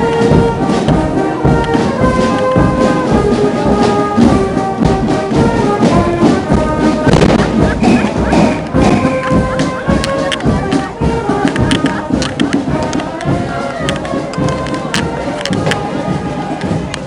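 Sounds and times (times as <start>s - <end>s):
marching brass band playing: 0.0s - 17.0s.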